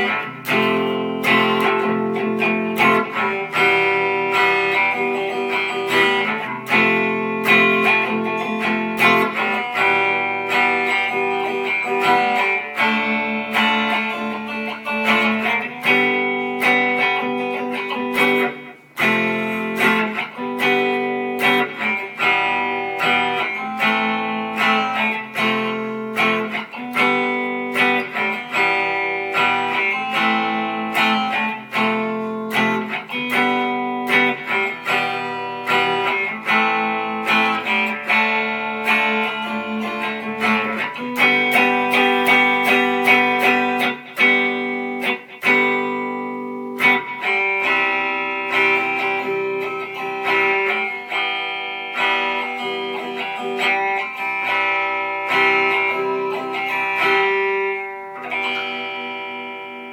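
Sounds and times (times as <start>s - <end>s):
solo guitar melody: 0.0s - 59.9s.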